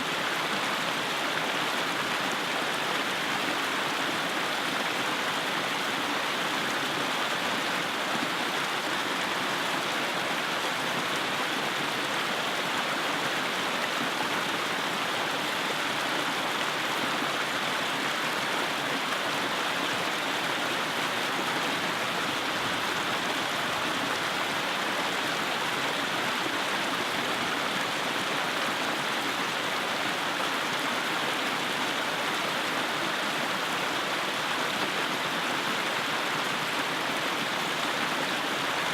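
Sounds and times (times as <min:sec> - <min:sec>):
creek water rushing between rocks: 0:00.0 - 0:38.9.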